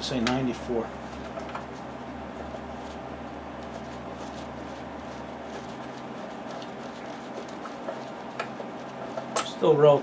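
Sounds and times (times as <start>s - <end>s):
heater humming: 0.0s - 10.0s.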